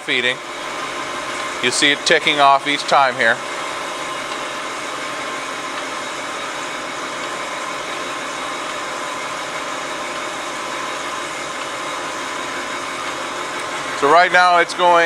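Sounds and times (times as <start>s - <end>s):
surface grinder humming and hissing: 0.0s - 15.0s.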